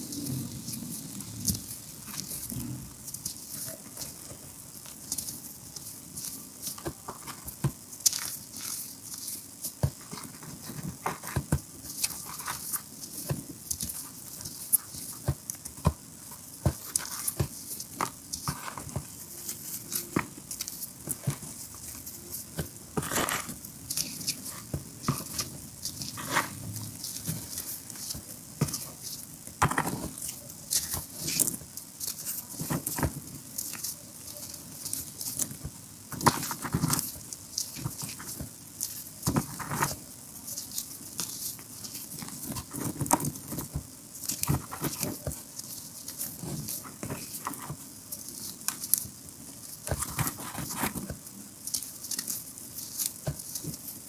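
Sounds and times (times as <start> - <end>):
hands crushing chalk: 0.0 - 54.0.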